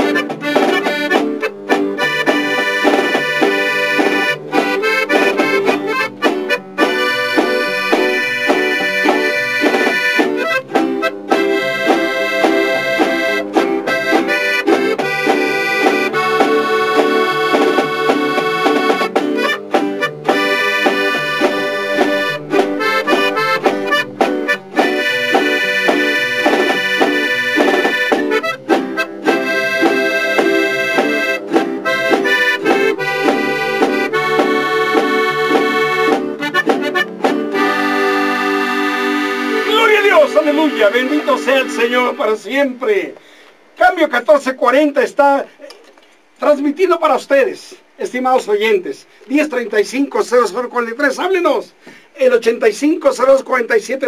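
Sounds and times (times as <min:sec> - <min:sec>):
accordion melody: 0:00.0 - 0:45.5.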